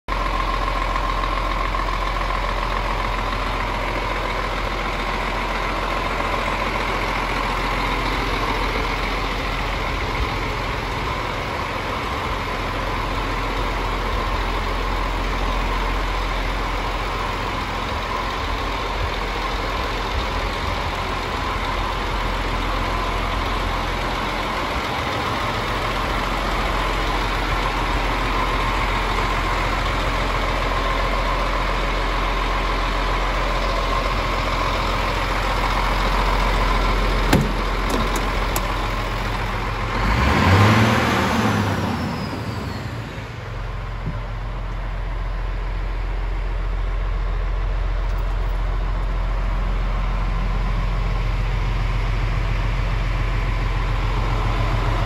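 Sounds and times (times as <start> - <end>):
diesel truck engine idling: 0.1 - 55.0.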